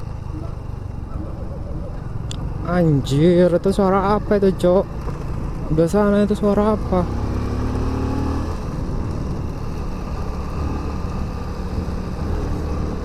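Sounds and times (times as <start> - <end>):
motorcycle running: 0.0 - 13.0
wind and road noise: 0.0 - 13.0.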